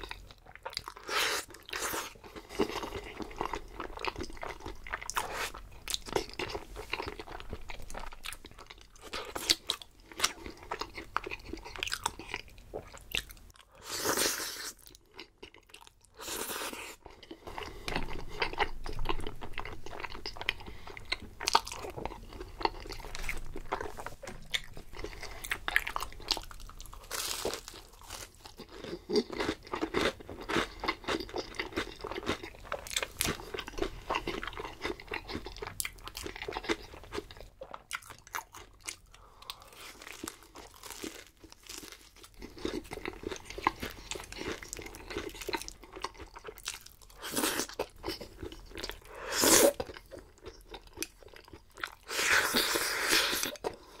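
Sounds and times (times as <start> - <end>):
crunchy chewing of fried food: 0.0 - 54.0.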